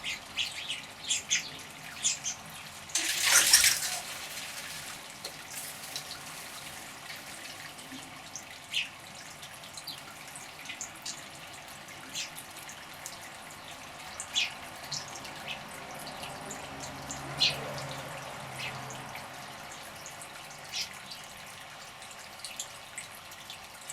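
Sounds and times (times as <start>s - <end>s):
water splashing in bird bath: 0.0s - 23.9s.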